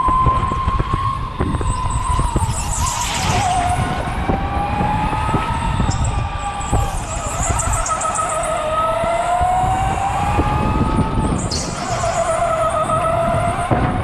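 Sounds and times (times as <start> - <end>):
electric go-kart motor whining: 0.0 - 14.0.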